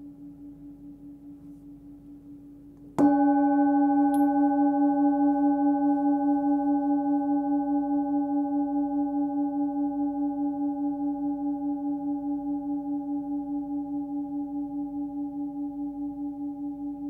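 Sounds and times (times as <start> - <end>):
singing bowl ringing: 3.0 - 17.0.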